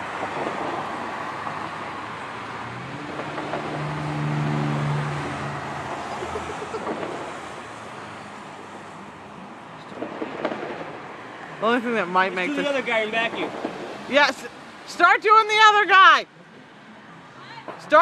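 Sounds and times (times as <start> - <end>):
vehicle engine hum: 0.0 - 14.9
road traffic noise: 0.0 - 18.0.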